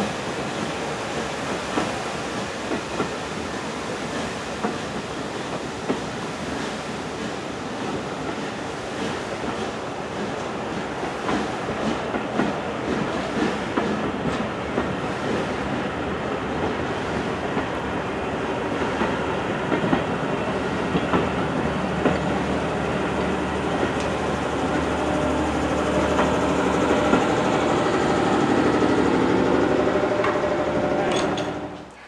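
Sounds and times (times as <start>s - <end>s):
train wheels clicking over rail joints: 0.0s - 15.9s, 18.6s - 32.0s
train rolling rumble: 0.0s - 32.0s.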